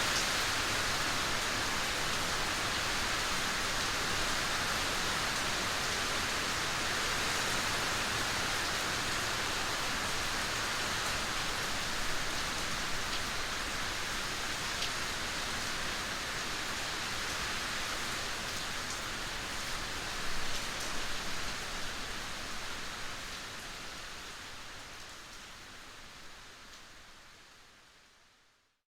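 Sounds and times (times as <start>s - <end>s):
steady rain: 0.0s - 28.8s.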